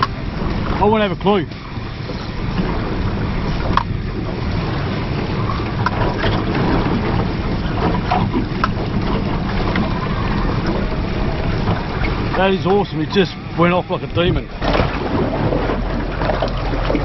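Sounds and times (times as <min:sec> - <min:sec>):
outboard motor running: 0:00.0 - 0:17.0
wind and water noise: 0:00.0 - 0:17.0.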